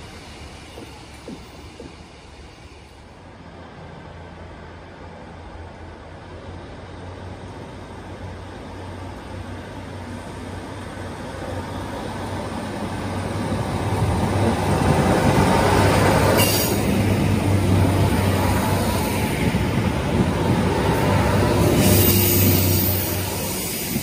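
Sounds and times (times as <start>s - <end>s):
diesel train engines droning: 0.0s - 24.0s.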